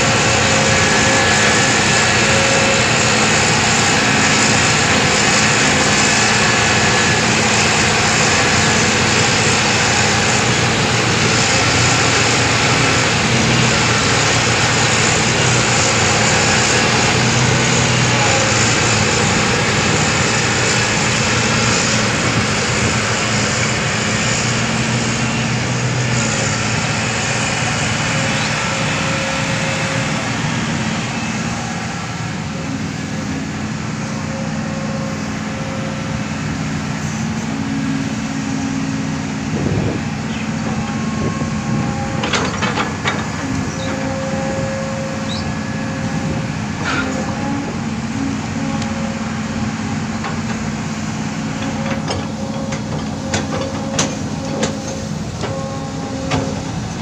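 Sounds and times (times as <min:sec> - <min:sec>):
excavator engine and hydraulics droning: 0:00.0 - 0:57.0.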